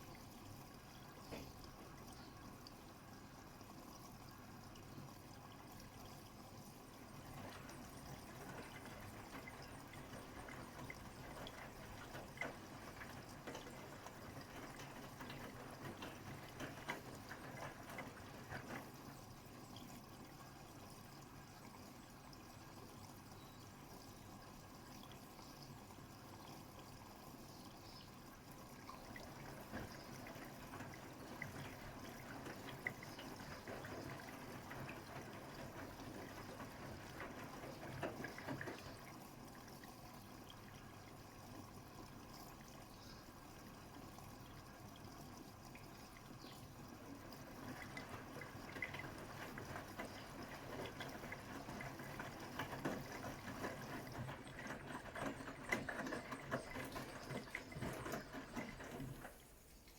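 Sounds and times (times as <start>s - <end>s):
water sloshing in washing machine: 0.0s - 59.9s.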